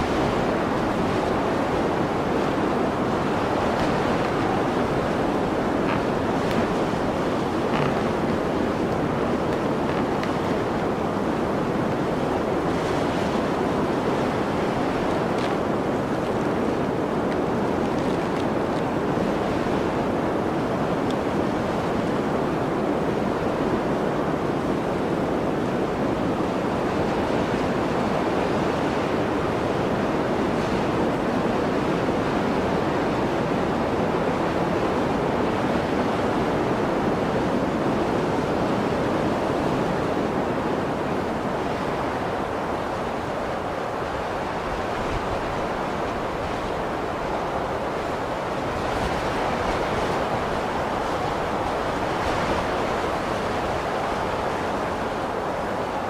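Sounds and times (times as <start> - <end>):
blizzard wind rushing: 0.0 - 56.0.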